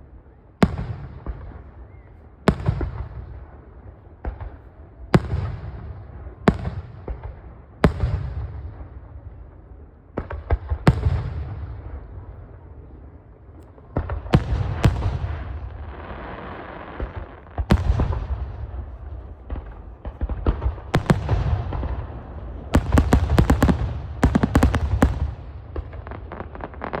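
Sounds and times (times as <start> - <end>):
firework bangs with rolling rumble: 0.6 - 9.3, 10.1 - 12.6, 13.8 - 27.0
rapid crackling firework volley: 0.6 - 27.0.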